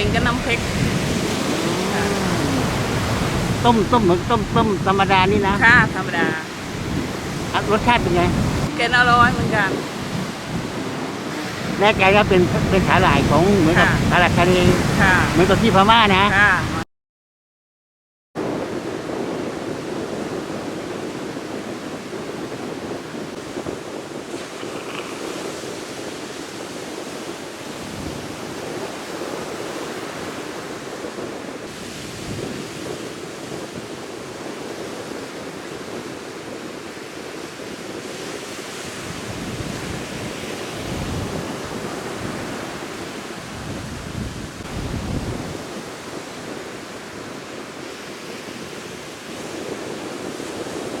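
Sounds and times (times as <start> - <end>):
surf washing onto beach: 0.0 - 16.8, 18.4 - 51.0
wind buffeting microphone: 0.0 - 16.8, 18.4 - 51.0.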